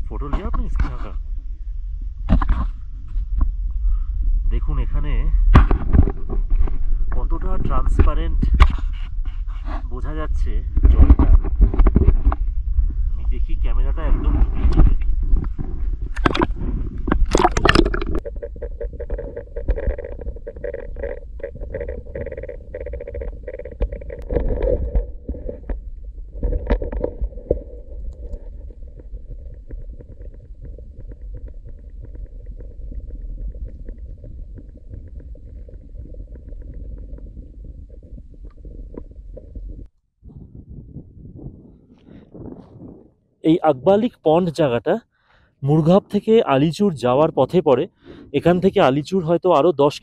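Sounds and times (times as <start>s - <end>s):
muffled underwater rumble and sloshing: 0.0s - 43.2s.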